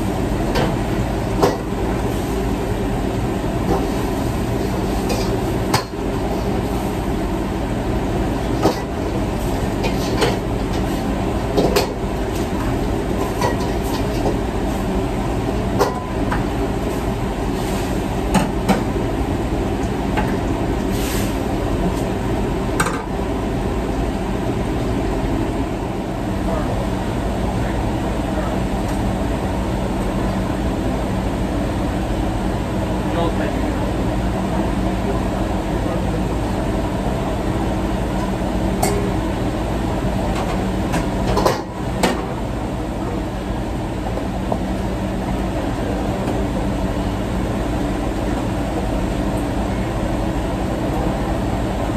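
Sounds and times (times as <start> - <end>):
kitchen equipment hum: 0.0 - 51.9
wok range and exhaust hood rushing: 0.0 - 51.9.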